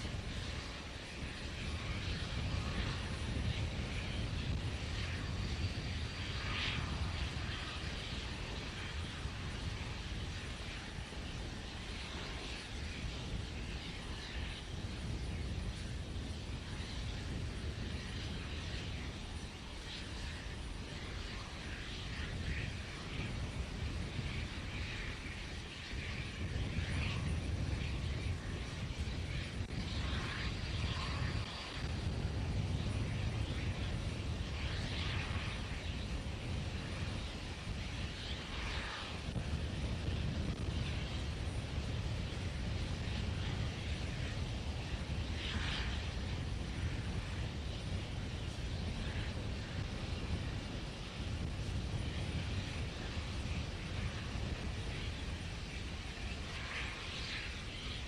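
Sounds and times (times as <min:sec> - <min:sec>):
steady rumbling noise: 0:00.0 - 0:58.0.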